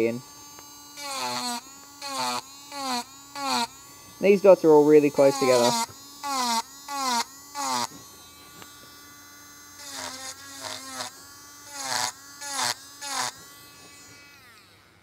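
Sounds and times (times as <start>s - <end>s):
cutter rasping into wood: 0.0s - 14.8s
rotary tool whining: 0.0s - 15.0s.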